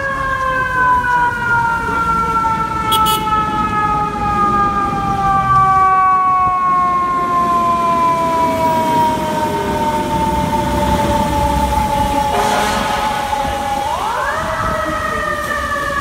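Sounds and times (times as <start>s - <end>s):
fire truck siren wailing: 0.0s - 16.0s
surrounding traffic: 0.0s - 16.0s
truck engine rumble: 0.0s - 16.0s.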